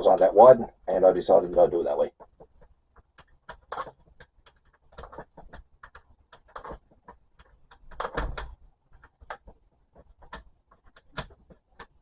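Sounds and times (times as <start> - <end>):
objects being handled knocking: 2.1 - 12.0.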